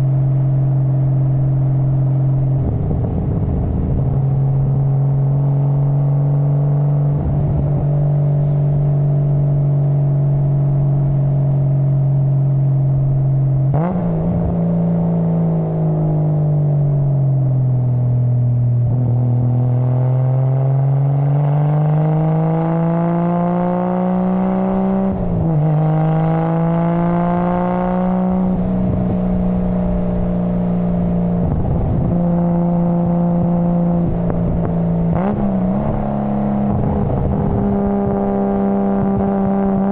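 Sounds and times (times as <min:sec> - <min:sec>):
car exhaust under way: 0:00.0 - 0:39.9.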